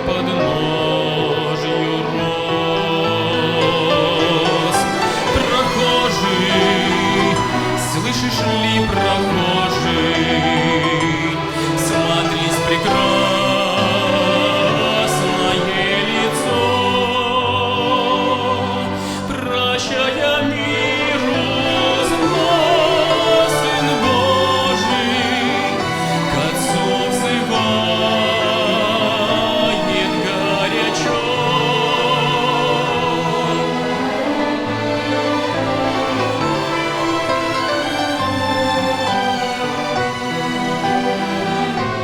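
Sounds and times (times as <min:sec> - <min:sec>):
string orchestra playing a hymn: 0:00.0 - 0:42.0.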